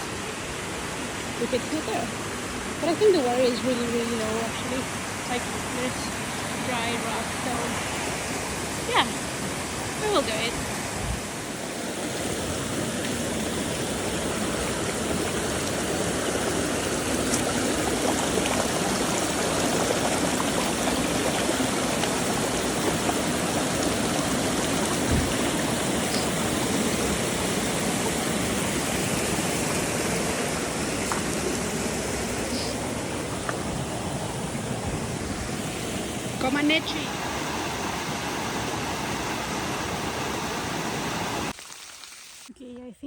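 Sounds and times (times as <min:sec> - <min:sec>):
water rushing over rocks: 0:00.0 - 0:42.5.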